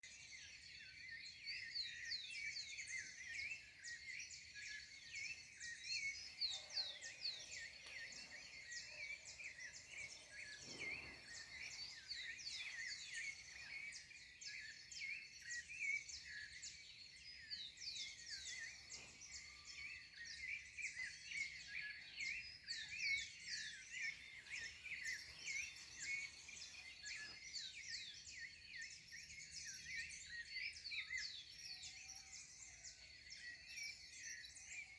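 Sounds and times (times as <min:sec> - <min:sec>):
birds chirping and twittering: 0:00.0 - 0:34.9.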